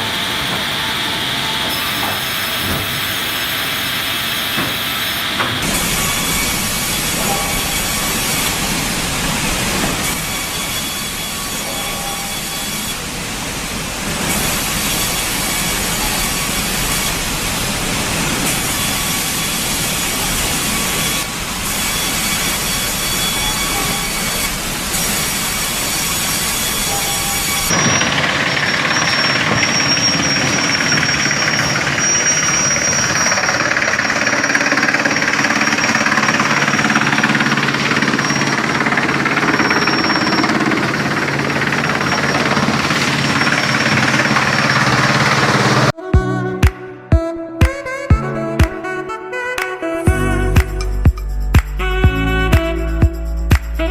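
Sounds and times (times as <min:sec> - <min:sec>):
heavy machinery running: 0:00.0 - 0:46.0
thin high whine: 0:00.0 - 0:46.0.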